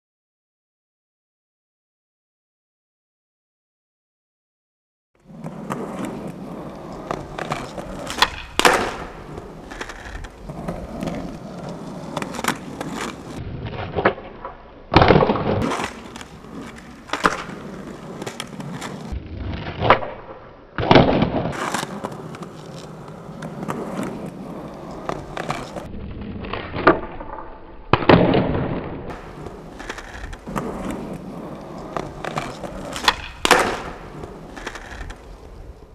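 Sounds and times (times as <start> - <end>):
skateboard wheels rolling on concrete: 5.2 - 35.9
skateboard clacks: 5.3 - 25.9, 26.6 - 35.9.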